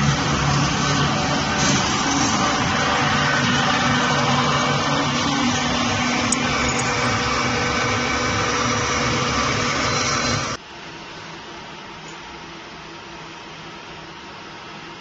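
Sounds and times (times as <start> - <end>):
machine whirring with low hum: 0.0 - 15.0.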